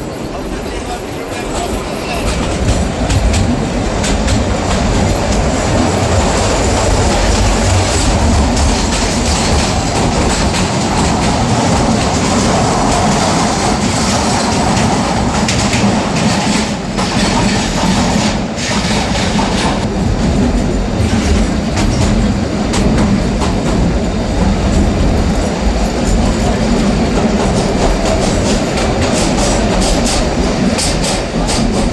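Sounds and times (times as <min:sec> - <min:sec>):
wheels clattering on rails: 0:00.0 - 0:31.9.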